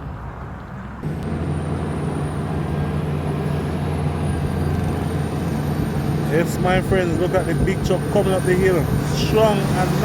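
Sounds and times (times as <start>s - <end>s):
heavy truck engine under load: 0.9s - 10.0s.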